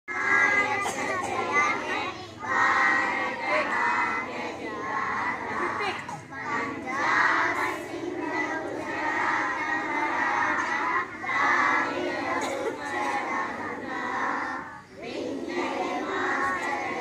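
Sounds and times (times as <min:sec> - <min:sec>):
children singing in chorus: 0:00.1 - 0:17.0.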